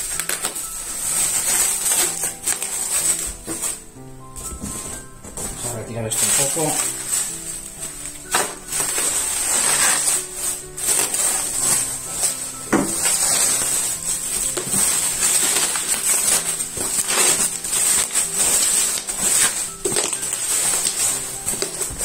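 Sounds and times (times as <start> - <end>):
bubble wrap crinkling: 0.0 - 22.0.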